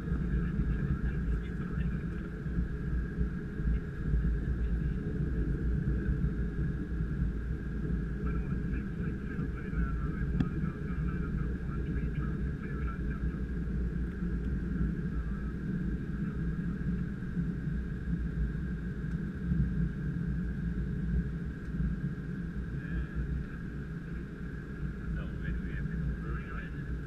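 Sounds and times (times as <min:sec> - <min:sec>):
low rumble of jet rolling: 0:00.0 - 0:27.0
thin steady hum: 0:00.0 - 0:27.0.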